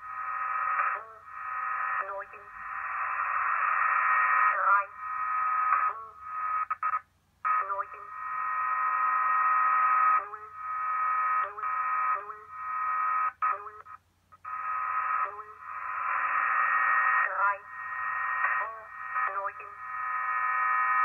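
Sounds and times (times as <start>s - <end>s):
distorted radio signal: 0.0s - 21.0s.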